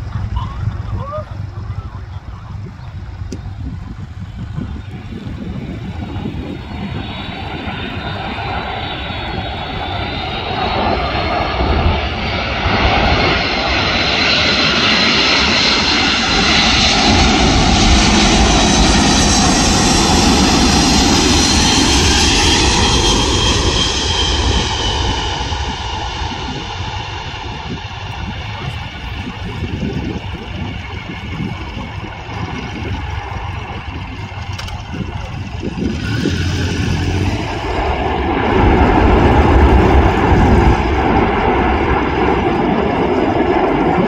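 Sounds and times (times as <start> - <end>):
jet engine noise with high whine: 0.0 - 44.0.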